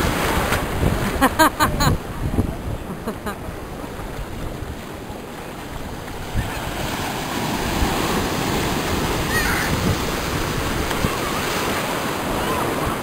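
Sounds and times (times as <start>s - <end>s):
wind buffeting microphone: 0.0s - 11.6s
surf washing in shallows: 0.0s - 13.0s.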